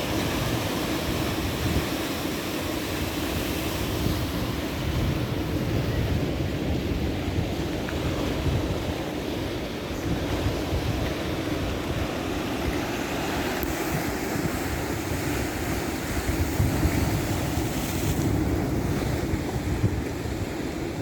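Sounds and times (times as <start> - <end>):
ocean waves washing on shore: 0.0 - 21.0
wind buffeting microphone: 0.0 - 21.0.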